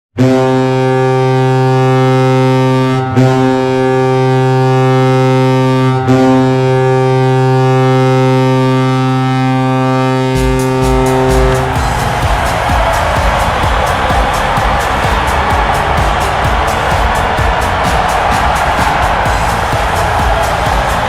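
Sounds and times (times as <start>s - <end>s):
goal horn blasts: 0.2s - 21.0s.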